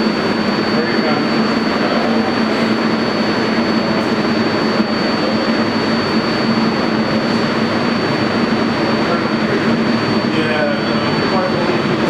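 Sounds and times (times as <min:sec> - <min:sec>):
mechanical drone with high whine: 0:00.0 - 0:12.0.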